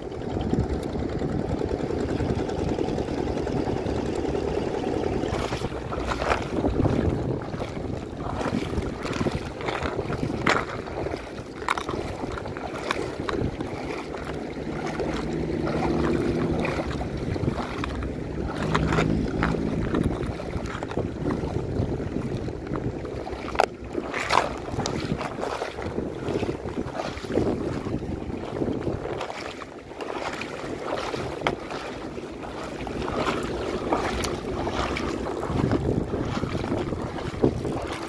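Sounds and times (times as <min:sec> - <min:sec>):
water moving: 0:00.0 - 0:38.0
wind buffeting microphone: 0:00.0 - 0:38.0.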